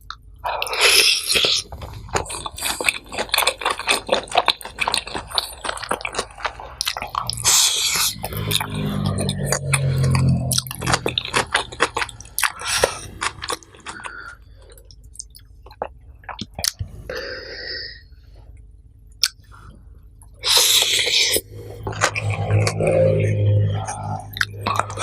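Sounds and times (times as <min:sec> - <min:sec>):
close chewing with mouth clicks: 0:00.0 - 0:16.9, 0:19.2 - 0:19.5, 0:20.2 - 0:22.9, 0:23.9 - 0:25.0.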